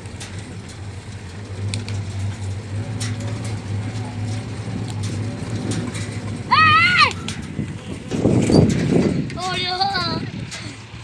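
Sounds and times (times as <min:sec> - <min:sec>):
farm machine engine running: 0:00.0 - 0:11.0.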